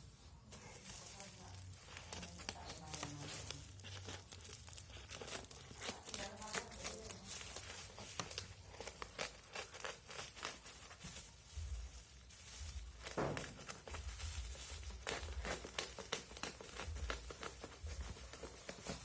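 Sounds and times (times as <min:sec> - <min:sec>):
packaging crinkling and tearing: 0:00.5 - 0:19.0.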